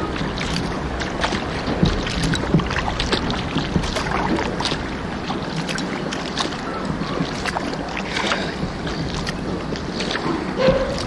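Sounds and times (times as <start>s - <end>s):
water drips: 0.0s - 11.0s
water splashing around kayak: 0.0s - 11.0s
wind buffeting microphone: 0.0s - 11.0s.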